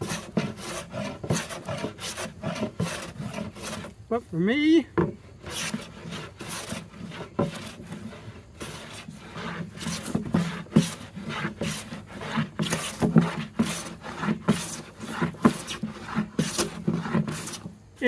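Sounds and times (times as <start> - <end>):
hand plane shaving wood: 0.0 - 4.0, 4.9 - 17.8.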